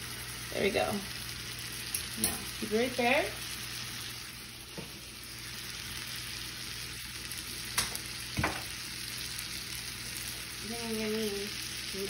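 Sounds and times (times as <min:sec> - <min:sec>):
steak sizzling in skillet: 0:00.0 - 0:12.0.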